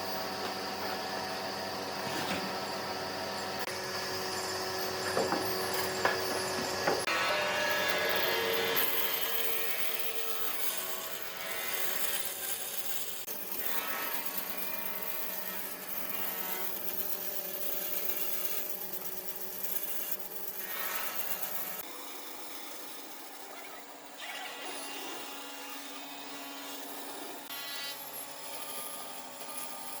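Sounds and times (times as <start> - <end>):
power tool rasping wood: 0.0 - 30.0.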